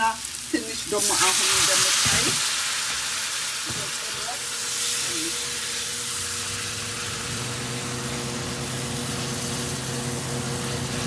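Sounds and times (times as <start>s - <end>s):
food sizzling in a pan: 0.0s - 11.0s
low mechanical hum: 1.9s - 11.0s.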